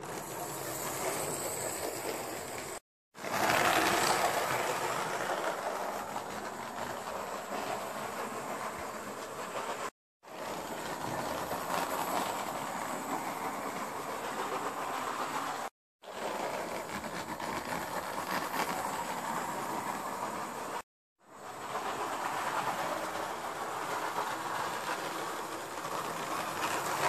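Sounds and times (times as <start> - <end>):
wheels clicking on rails: 0.0 - 27.0.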